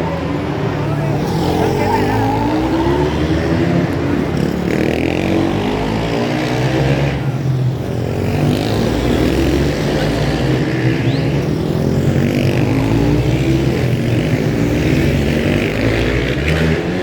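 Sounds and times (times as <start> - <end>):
race motorcycles accelerating: 0.0 - 17.0.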